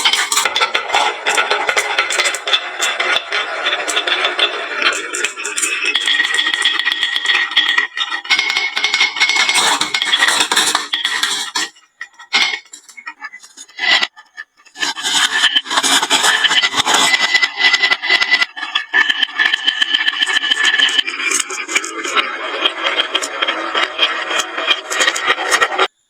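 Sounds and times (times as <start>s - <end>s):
marbles clattering down wooden run: 0.0s - 11.8s, 15.5s - 25.9s.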